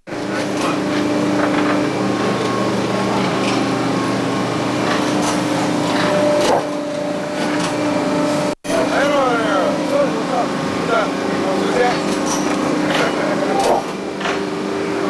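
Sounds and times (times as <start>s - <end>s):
railway machine engine drone: 0.0s - 15.0s.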